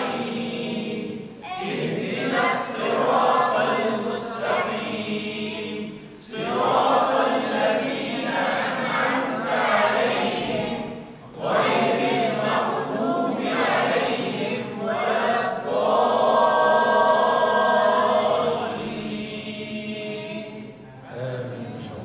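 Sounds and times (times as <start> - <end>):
melodic chanted recitation: 0.0 - 22.0.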